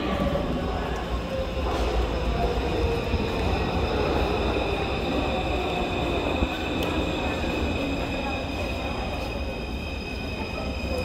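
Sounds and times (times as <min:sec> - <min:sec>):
subway train pulling in: 0:00.0 - 0:11.0.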